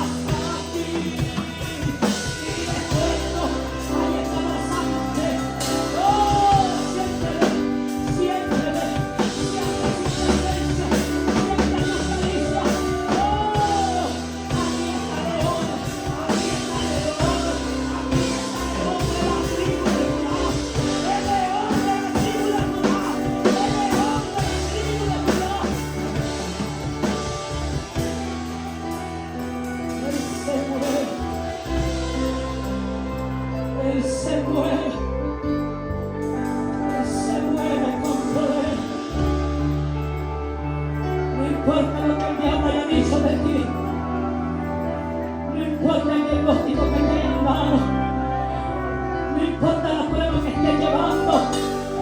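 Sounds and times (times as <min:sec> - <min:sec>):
band with drums bass and guitar: 0:00.0 - 0:52.0
chorus singing: 0:00.0 - 0:52.0.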